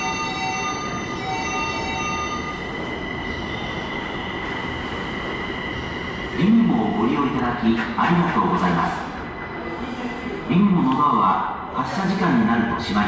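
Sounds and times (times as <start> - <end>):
train electric whine: 0.0 - 13.0.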